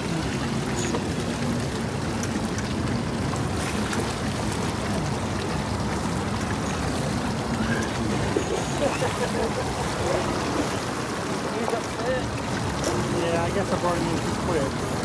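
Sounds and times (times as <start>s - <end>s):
choppy water splashing on hull: 0.0s - 15.0s
outboard motor running low: 0.0s - 15.0s.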